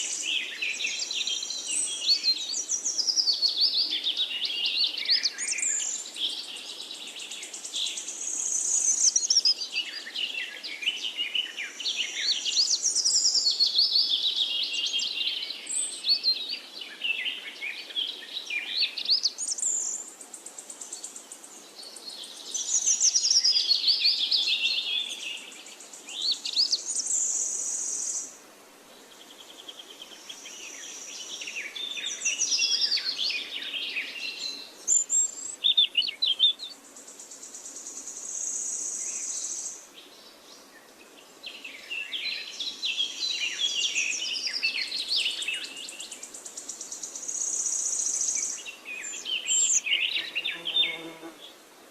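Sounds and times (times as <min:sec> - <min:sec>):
songbirds singing: 0:00.0 - 0:51.7.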